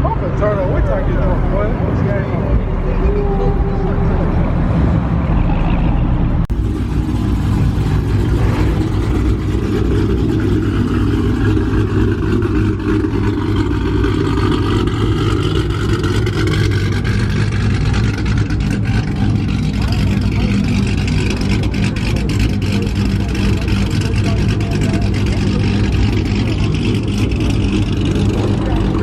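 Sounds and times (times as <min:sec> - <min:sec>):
car engine running and revving: 0:00.0 - 0:29.0.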